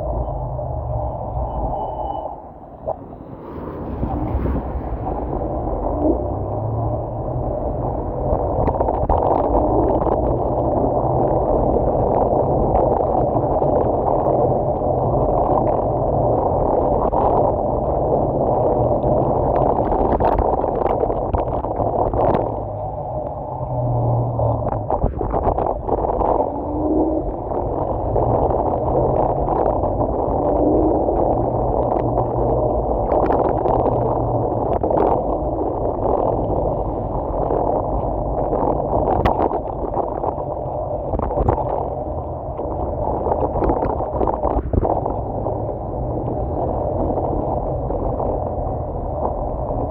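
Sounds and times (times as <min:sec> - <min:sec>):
low hum: 0:00.0 - 0:49.9
muffled rushing wind: 0:00.0 - 0:49.9
road noise: 0:00.0 - 0:49.9.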